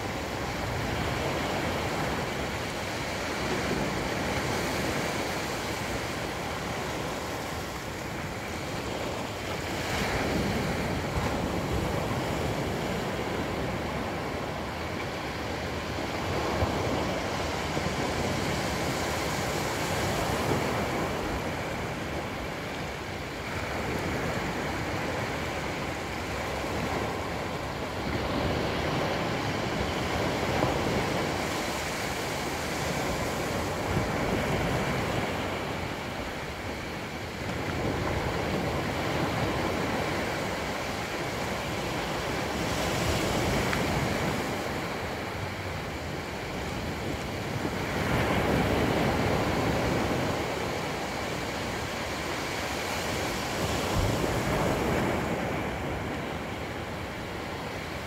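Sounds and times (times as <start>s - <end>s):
small waves breaking on sand: 0.0s - 58.0s.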